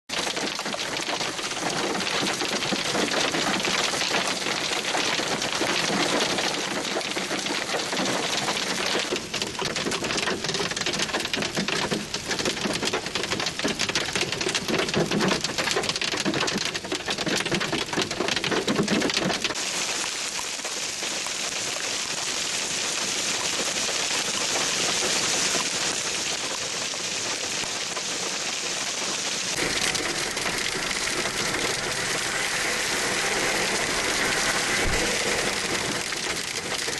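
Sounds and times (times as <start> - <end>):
heavy hail pelting down: 0.1 - 36.9.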